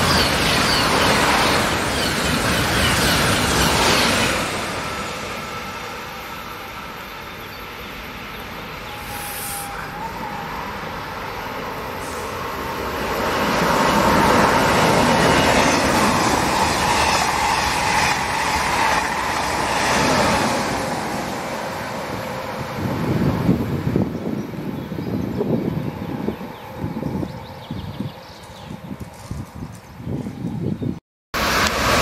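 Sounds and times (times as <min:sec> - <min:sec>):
steady train whine: 0:00.0 - 0:29.1, 0:31.4 - 0:32.0
train passing at speed: 0:00.0 - 0:29.5, 0:31.4 - 0:32.0.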